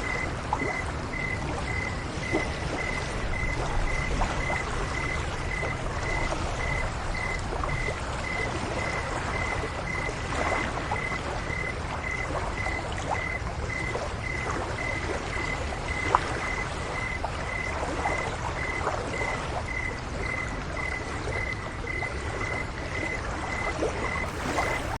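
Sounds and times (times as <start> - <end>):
cricket chirping: 0.0 - 25.0
water trickling and lapping: 0.0 - 25.0.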